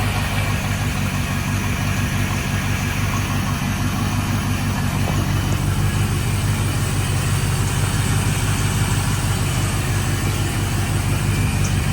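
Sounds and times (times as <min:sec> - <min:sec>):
boat engine idling: 0:00.0 - 0:11.9.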